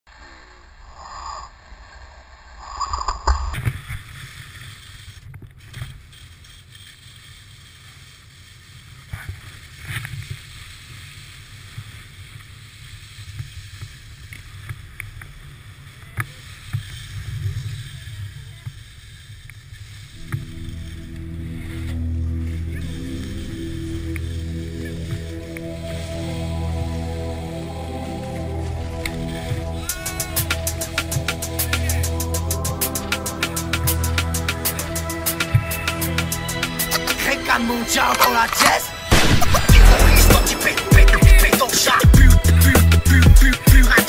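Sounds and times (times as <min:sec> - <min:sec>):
skis scraping on snow: 0:00.1 - 0:44.0.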